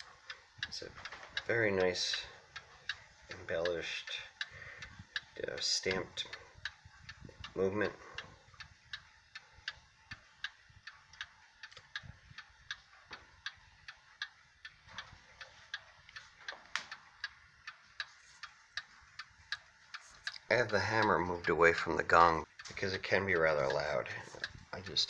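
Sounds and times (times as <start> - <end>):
mantel clock ticking: 0.0 - 25.0.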